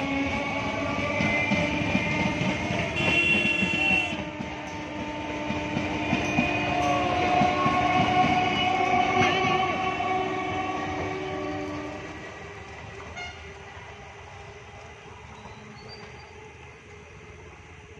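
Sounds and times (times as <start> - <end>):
train passing close by: 0.0 - 17.9.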